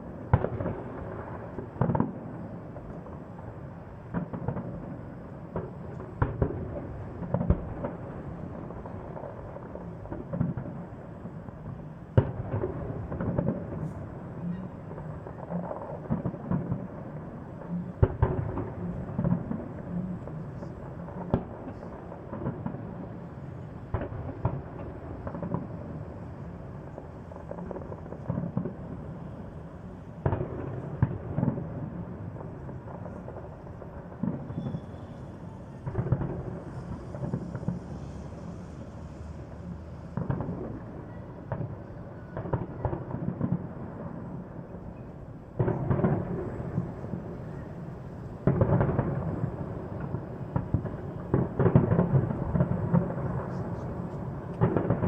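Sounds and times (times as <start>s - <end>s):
fireworks bursts and crackle: 0.0s - 55.0s.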